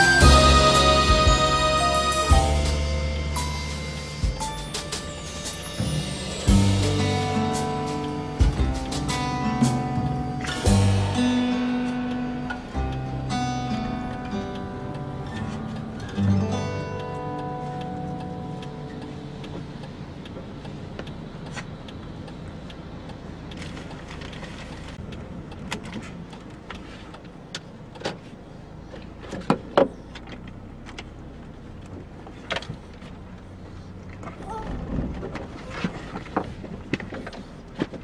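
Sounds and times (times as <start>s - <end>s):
engine and road rumble in car: 0.0s - 38.0s.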